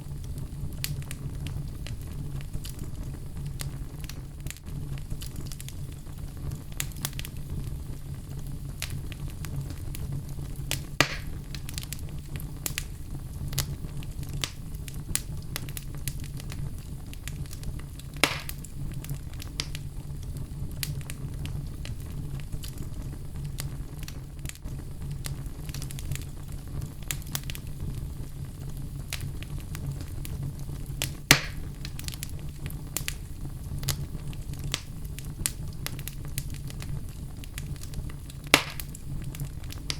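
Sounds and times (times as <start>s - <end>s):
fire popping: 0.0s - 39.9s
wood fire burning: 0.0s - 39.9s.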